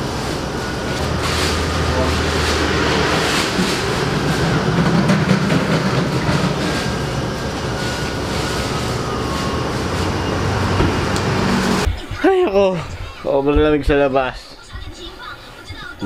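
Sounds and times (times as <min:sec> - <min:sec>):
washers and dryers droning: 0:00.0 - 0:16.0.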